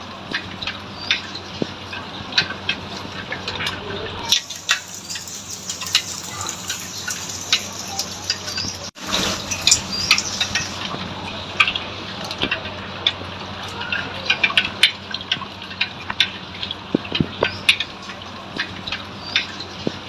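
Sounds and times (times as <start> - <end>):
small splashes and crackles: 0.0 - 20.0
floodwater rushing: 1.8 - 18.8.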